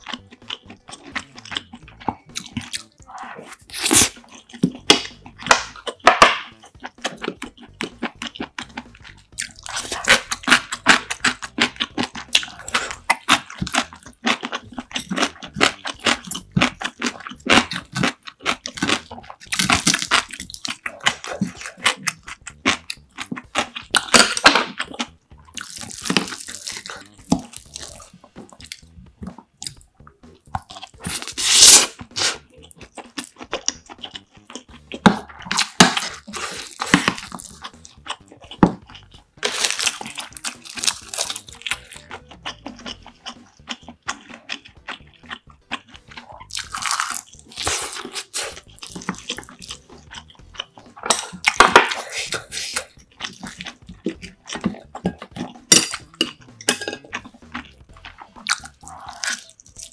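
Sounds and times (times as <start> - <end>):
crunchy bites: 0.0 - 59.9
wet chewing: 0.0 - 59.9.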